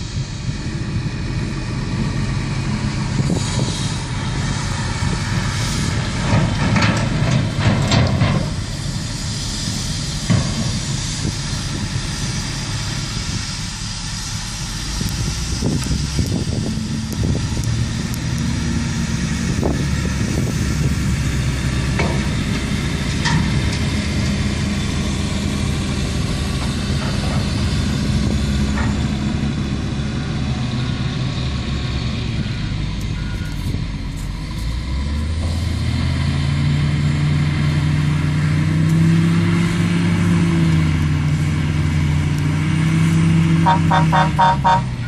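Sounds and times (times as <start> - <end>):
dump trucks idling: 0.0 - 45.0
wheel loader diesel engine: 0.0 - 45.0.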